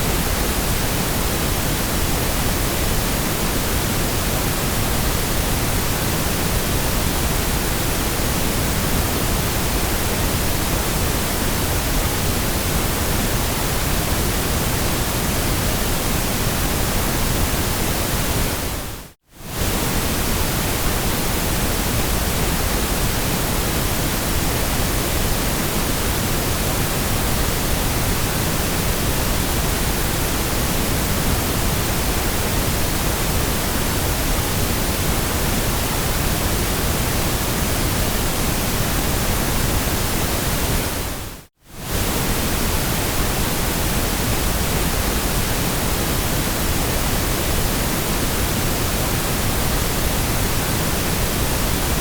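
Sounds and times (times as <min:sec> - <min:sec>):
white noise hiss: 0:00.0 - 0:52.0.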